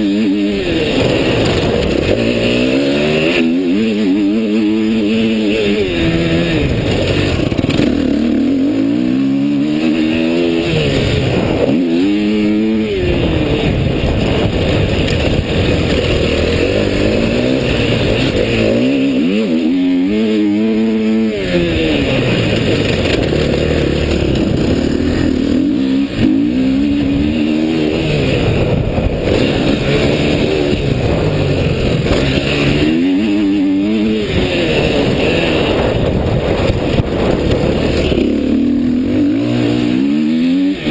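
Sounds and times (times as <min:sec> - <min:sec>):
dirt bike engine revving: 0:00.0 - 0:40.9
wind noise: 0:00.0 - 0:40.9.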